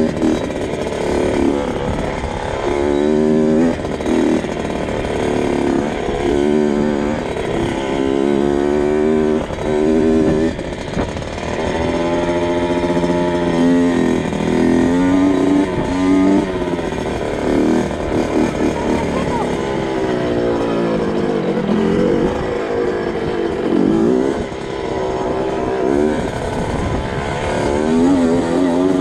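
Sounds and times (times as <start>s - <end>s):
two-stroke motorcycle engine revving: 0.0s - 29.0s.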